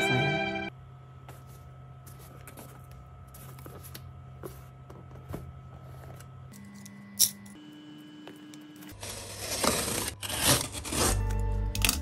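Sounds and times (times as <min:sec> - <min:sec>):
steady low hum: 0:00.7 - 0:11.1.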